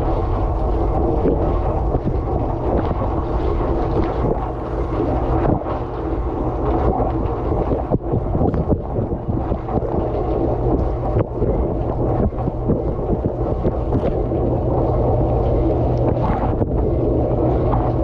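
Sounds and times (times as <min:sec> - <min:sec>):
pump humming: 0:00.0 - 0:18.0.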